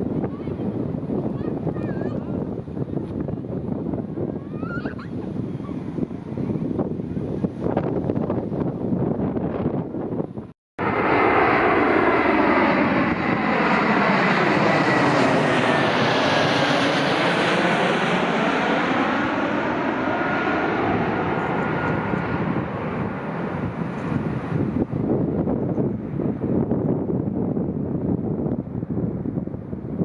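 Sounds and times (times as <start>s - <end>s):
jet engines passing with whine: 0.0s - 30.0s.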